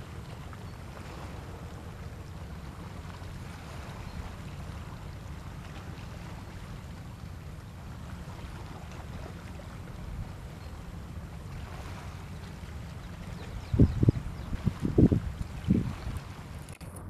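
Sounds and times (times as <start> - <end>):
outdoor low rumble with hiss: 0.0 - 17.0.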